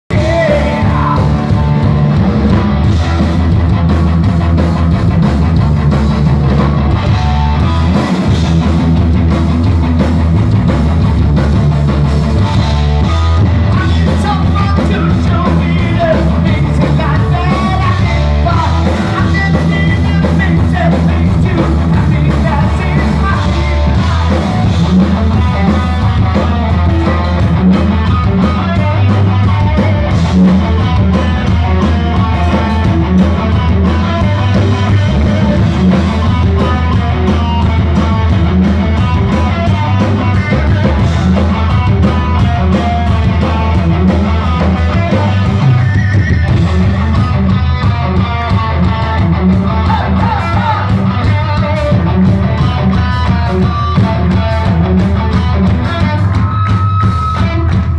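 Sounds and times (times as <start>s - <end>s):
bass guitar: 0.0s - 57.9s
drums: 0.0s - 57.9s
distorted electric guitar riff: 0.1s - 57.9s.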